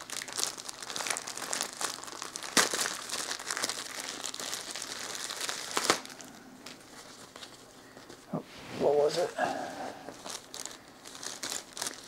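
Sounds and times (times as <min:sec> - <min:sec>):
plastic bag crinkling: 0:00.0 - 0:08.2, 0:10.0 - 0:12.0.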